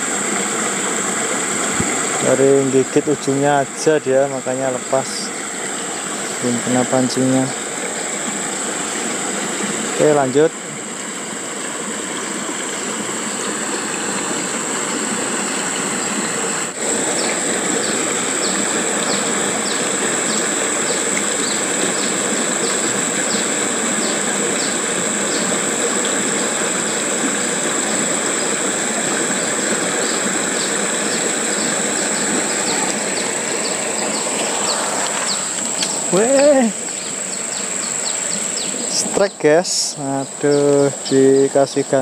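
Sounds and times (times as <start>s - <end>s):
insect drone: 0.0s - 42.0s
water flowing into pond: 0.0s - 42.0s.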